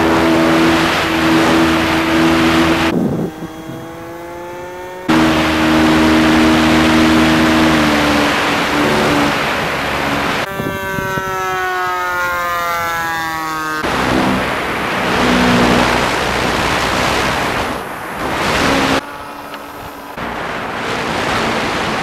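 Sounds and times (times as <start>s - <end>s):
model plane passing by whine: 0.0s - 22.0s
model plane propeller drone: 0.0s - 22.0s
rushing wind: 0.0s - 22.0s.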